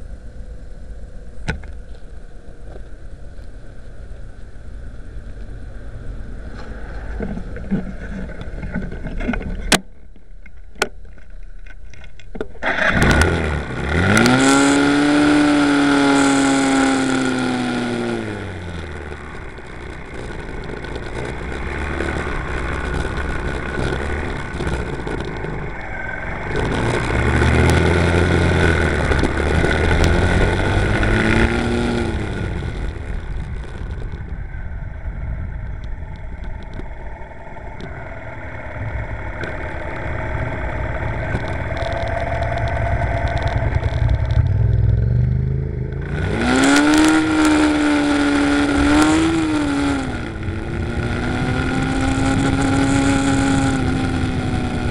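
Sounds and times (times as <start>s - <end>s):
motorcycle engine idling and revving: 0.0s - 9.8s, 10.6s - 54.9s
riding noise: 0.0s - 54.9s.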